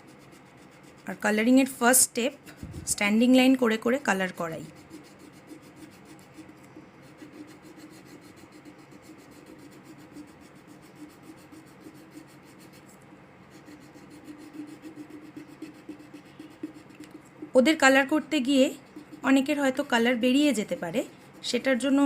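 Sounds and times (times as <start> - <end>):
colouring strokes scratching on paper: 0.0 - 22.0.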